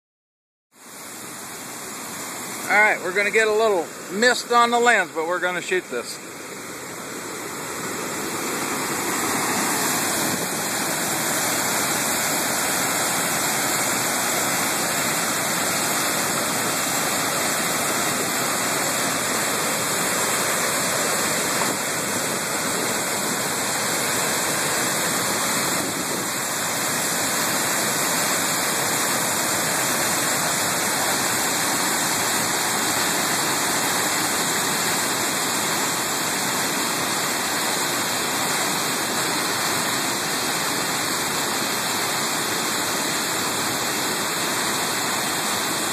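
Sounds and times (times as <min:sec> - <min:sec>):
waterfall rushing over rocks: 0:00.8 - 0:45.9.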